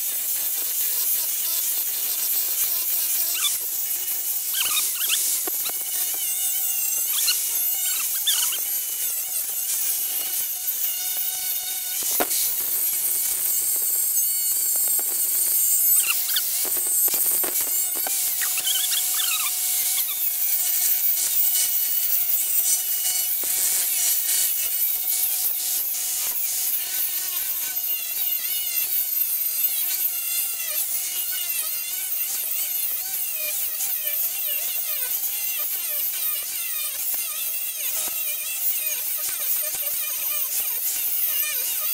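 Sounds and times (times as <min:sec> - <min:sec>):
angle grinder grinding steel: 0:00.0 - 0:41.9.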